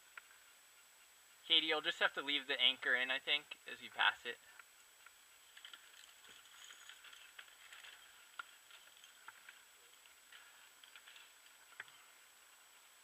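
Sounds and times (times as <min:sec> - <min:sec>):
faint light ticks and clicks: 0:00.0 - 0:13.0.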